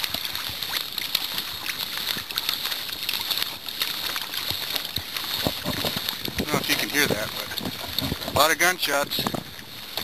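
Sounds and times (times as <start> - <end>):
waves lapping against kayak hull: 0.0 - 10.0.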